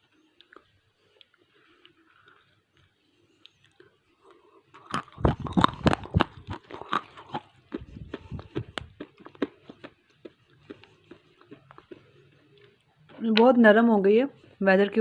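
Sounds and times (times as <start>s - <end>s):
chewing crunchy clay: 0.0s - 13.1s.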